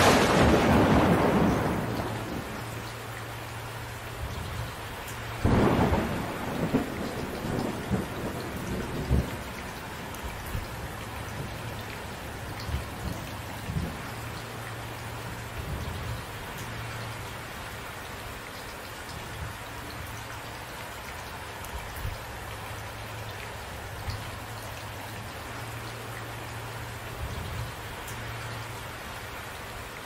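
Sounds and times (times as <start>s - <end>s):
steady rain hissing: 0.0s - 30.0s.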